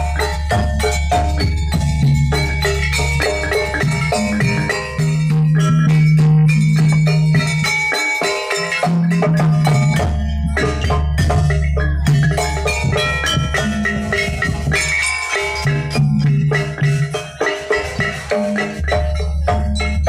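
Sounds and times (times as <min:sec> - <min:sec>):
drums: 0:00.0 - 0:20.0
struck metallophone notes: 0:00.0 - 0:20.0.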